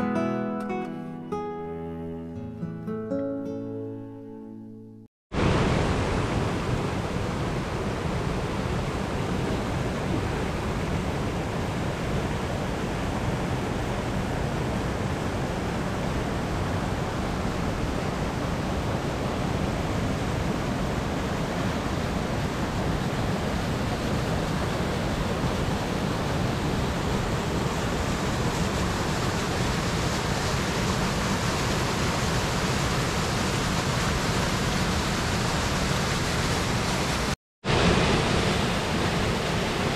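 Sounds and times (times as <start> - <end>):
waterfall roaring: 5.4 - 39.9.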